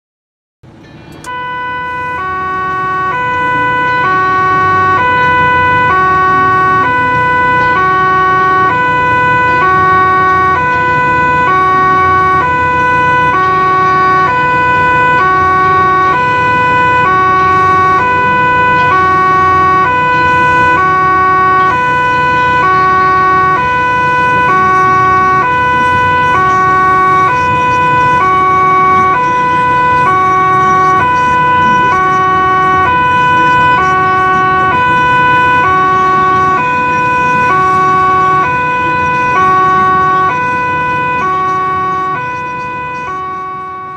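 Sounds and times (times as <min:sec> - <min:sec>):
fire truck two-tone siren: 0:00.6 - 0:43.9
low vehicle rumble: 0:00.6 - 0:43.9.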